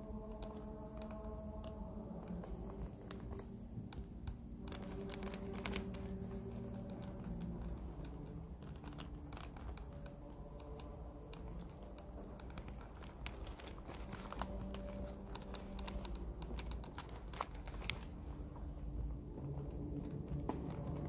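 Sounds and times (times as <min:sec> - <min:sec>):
low room hum: 0:00.0 - 0:21.0
light clicks and taps: 0:00.1 - 0:21.0.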